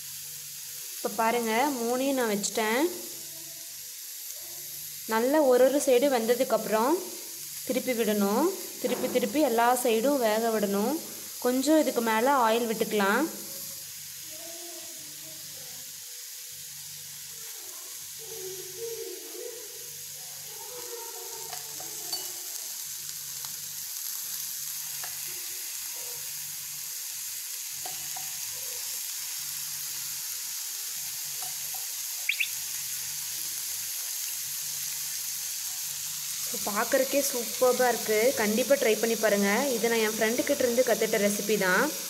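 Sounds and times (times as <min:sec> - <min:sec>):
food sizzling in oil: 0:00.0 - 0:42.0.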